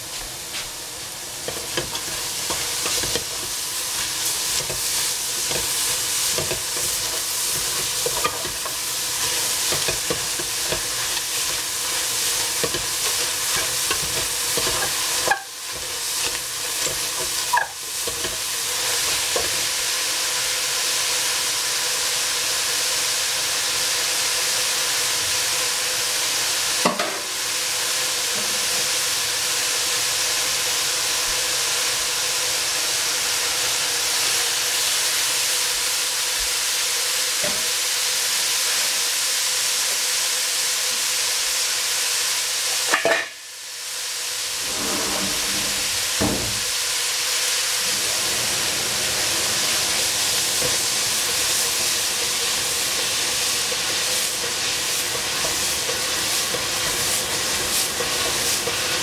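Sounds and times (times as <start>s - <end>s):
cabbage sizzling in a pan: 0.0s - 59.0s.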